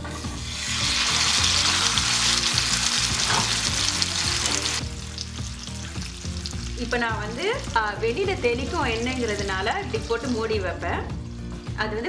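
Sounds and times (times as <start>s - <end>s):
fish sizzling in hot oil: 0.0s - 11.8s.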